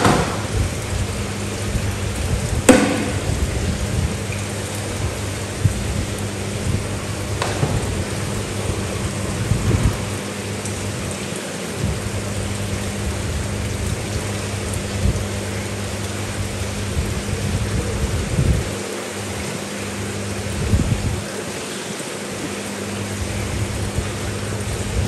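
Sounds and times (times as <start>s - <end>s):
low electrical hum: 0.0s - 25.0s
splashing falling water: 0.0s - 25.0s.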